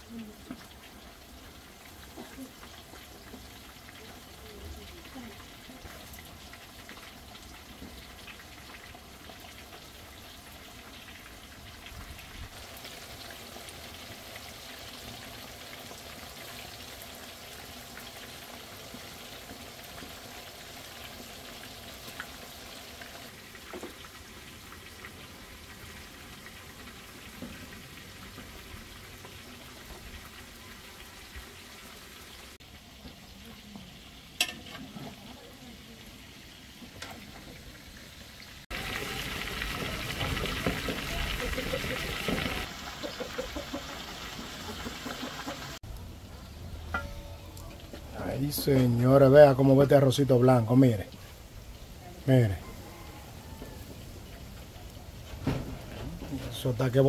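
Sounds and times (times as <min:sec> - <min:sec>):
chicken frying in oil: 0:00.0 - 0:57.0.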